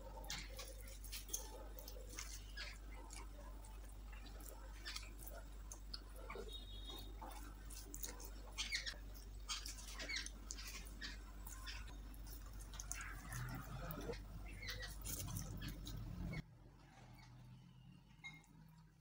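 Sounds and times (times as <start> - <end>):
eating sounds: 0.0 - 16.4
fingers squishing wet rice: 0.0 - 16.4.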